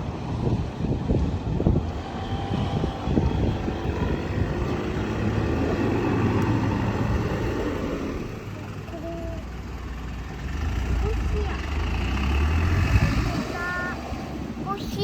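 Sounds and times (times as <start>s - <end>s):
train rumbling by: 0.0s - 15.0s.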